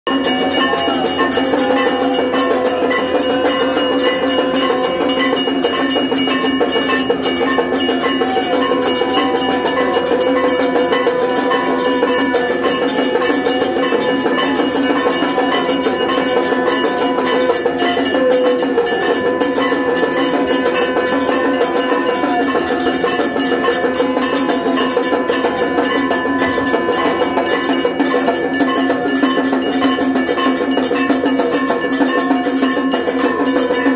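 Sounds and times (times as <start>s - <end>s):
bells ringing rapidly: 0.1s - 33.9s.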